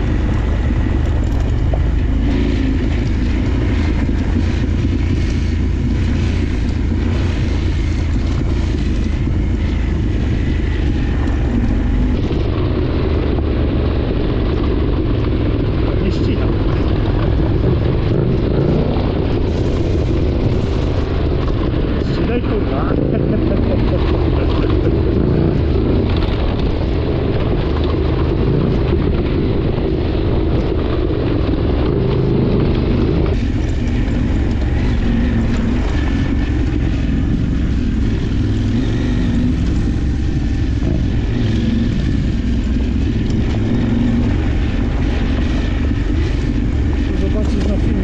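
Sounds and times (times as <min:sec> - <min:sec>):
motorcycle engine rumbling: 0:00.0 - 0:48.0.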